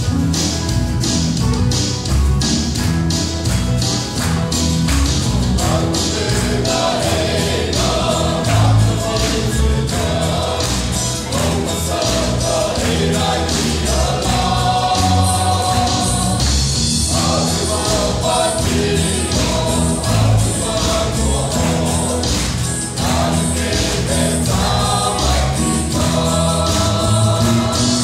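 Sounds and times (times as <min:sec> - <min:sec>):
drums keeping a steady beat: 0:00.0 - 0:28.0
strummed guitar: 0:00.0 - 0:28.0
group singing a hymn: 0:05.2 - 0:28.0.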